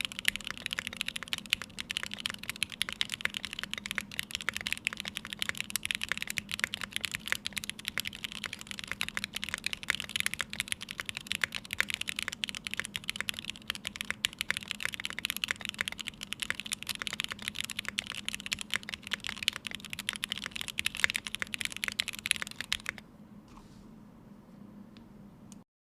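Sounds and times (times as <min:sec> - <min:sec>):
fast mechanical keyboard typing: 0:00.0 - 0:23.0
faint background hum: 0:00.0 - 0:25.6.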